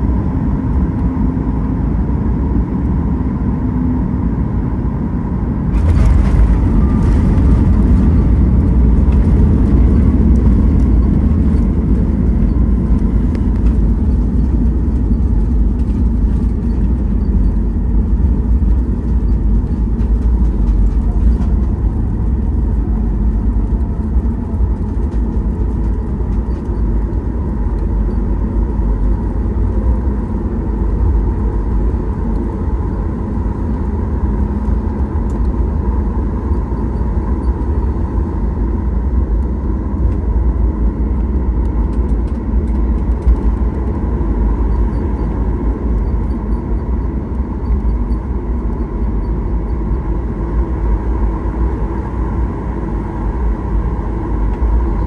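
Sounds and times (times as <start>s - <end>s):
airplane cabin engine noise: 0.0s - 55.0s.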